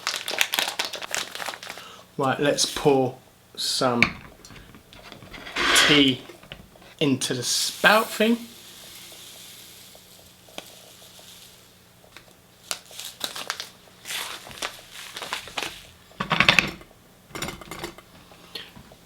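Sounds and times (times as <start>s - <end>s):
loose tea rustling into infuser: 0.8s - 16.8s.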